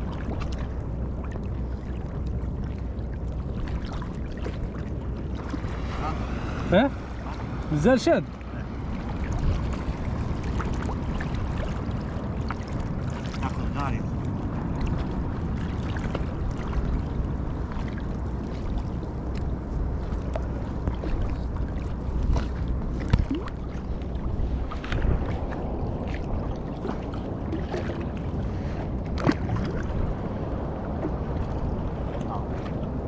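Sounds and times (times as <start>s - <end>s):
sea water sloshing and lapping: 0.0s - 33.0s
wind on microphone: 0.0s - 33.0s.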